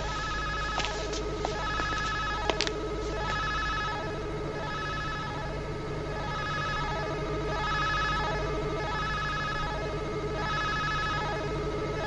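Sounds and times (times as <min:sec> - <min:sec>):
low hum: 0:00.0 - 0:12.0
warbling electronic tones: 0:00.0 - 0:12.0.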